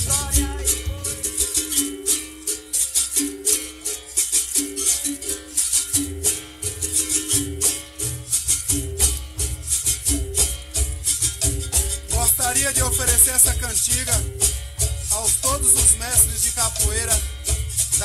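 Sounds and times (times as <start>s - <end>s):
berimbau playing: 0.0s - 18.0s.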